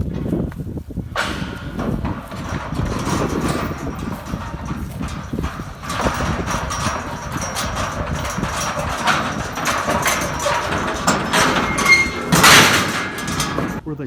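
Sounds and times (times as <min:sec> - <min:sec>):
horse hooves clip-clopping: 0:00.0 - 0:13.8.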